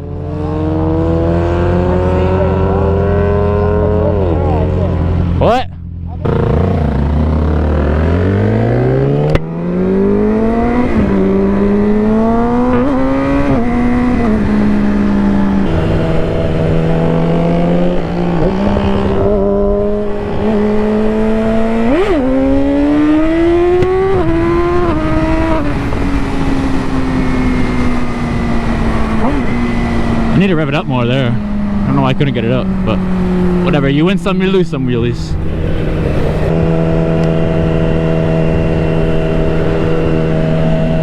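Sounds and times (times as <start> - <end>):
motorcycle engine accelerating: 0.0 - 41.0
wind noise: 6.6 - 41.0.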